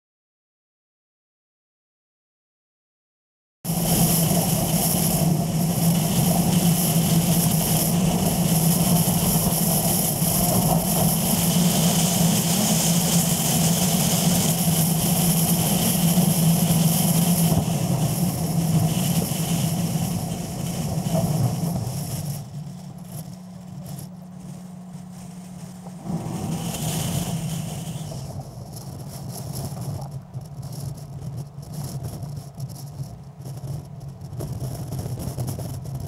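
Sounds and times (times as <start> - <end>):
car driving on gravel road: 3.7 - 36.0.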